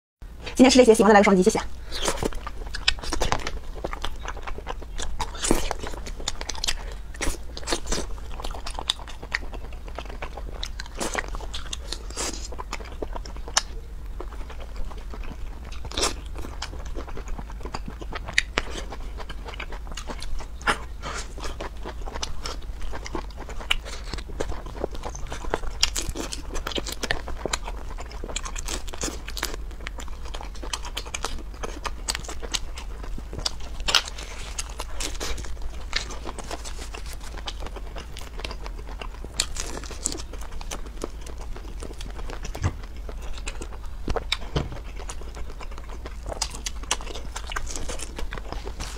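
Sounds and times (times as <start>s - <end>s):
person crunching and chewing food: 1.6s - 48.9s.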